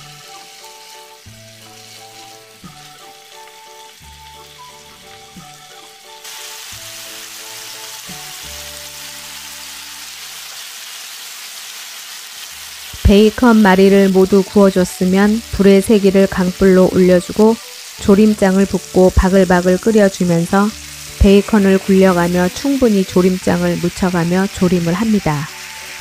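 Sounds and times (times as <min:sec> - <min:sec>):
soft background music: 0:00.0 - 0:10.8, 0:12.6 - 0:26.0
food sizzling in a frying pan: 0:00.0 - 0:26.0.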